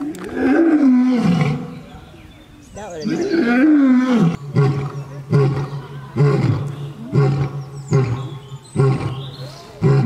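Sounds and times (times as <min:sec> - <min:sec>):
lion roaring: 0:00.2 - 0:01.7, 0:03.1 - 0:10.0.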